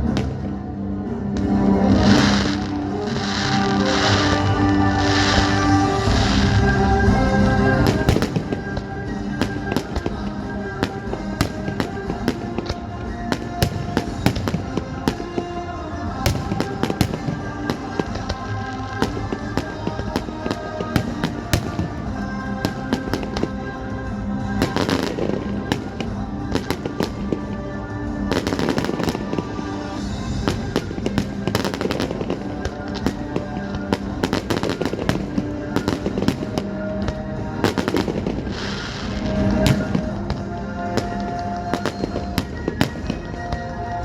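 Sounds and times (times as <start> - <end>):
music soundtrack: 0.0 - 44.0
fireworks bursting: 1.4 - 44.0
fireworks crackle: 1.4 - 44.0.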